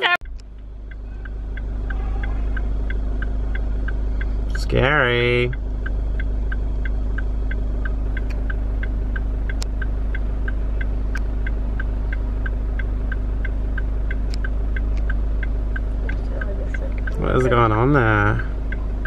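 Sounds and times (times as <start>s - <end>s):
car engine idling: 0.0s - 19.0s
light ticking: 0.2s - 19.0s.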